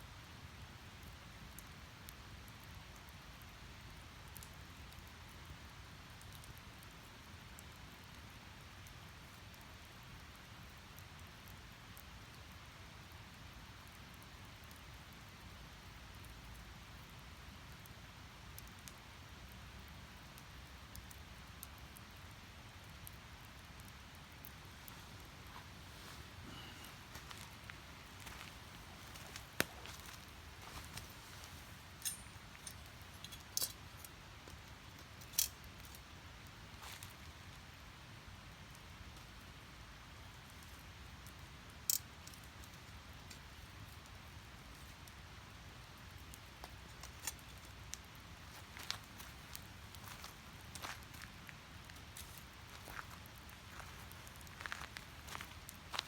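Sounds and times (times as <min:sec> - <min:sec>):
fire hissing and rumbling: 0:00.1 - 0:55.9
firewood crackling and popping: 0:00.1 - 0:56.0.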